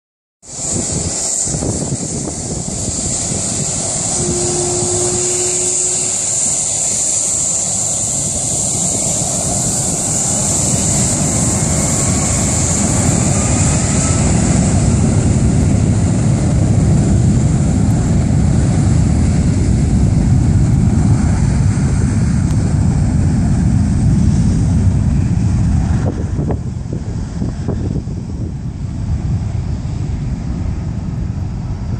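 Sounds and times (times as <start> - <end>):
jet engines whining and rumbling: 0.4 - 31.9.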